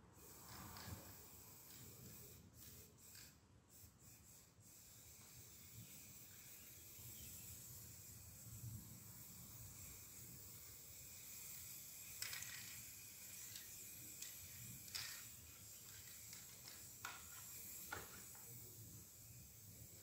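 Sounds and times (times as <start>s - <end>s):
spray can hissing: 0.2s - 20.0s.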